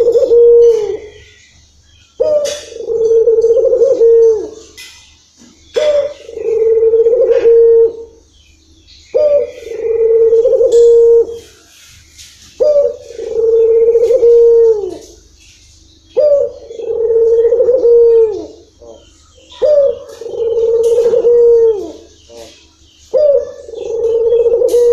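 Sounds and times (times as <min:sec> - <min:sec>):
dove cooing: 0:00.0 - 0:01.4, 0:02.2 - 0:04.9, 0:05.7 - 0:08.3, 0:09.1 - 0:11.6, 0:12.6 - 0:15.4, 0:16.0 - 0:24.9.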